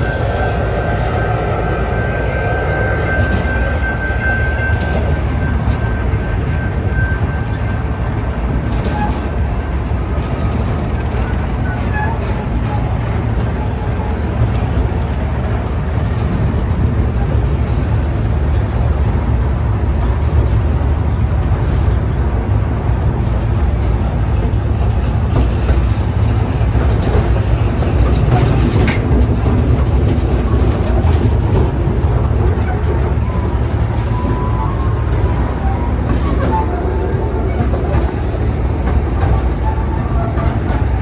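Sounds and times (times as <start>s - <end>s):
train rumbling on track: 0.0s - 41.0s.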